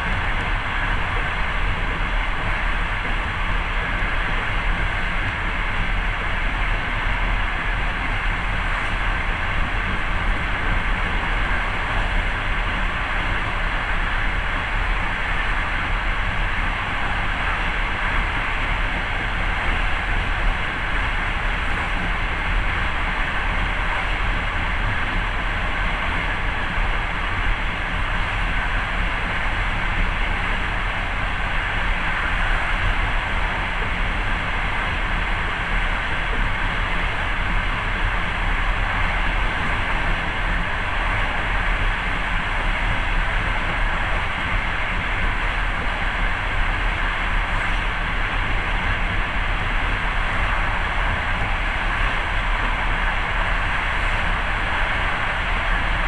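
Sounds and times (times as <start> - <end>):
train rumble and rail noise: 0.0 - 56.0.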